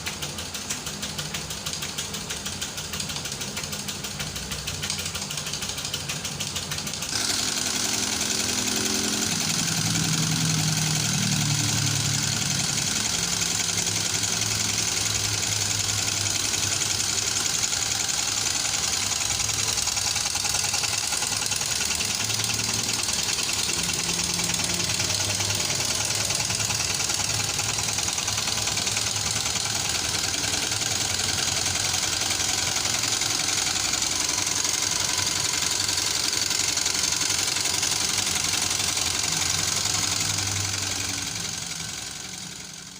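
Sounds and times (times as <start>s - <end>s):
steam engine ticking rapidly: 0.0s - 42.9s.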